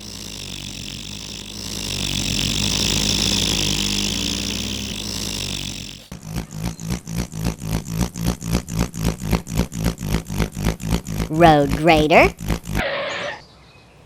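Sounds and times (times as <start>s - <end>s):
motor running: 0.0s - 12.8s.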